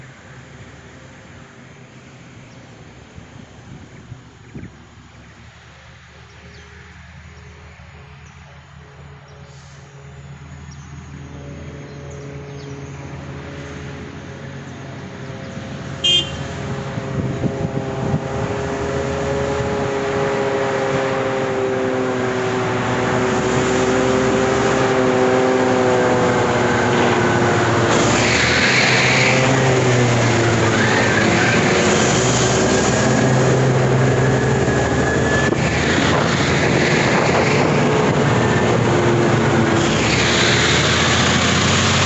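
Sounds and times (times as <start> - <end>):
dump truck engine drone: 0.0 - 42.0.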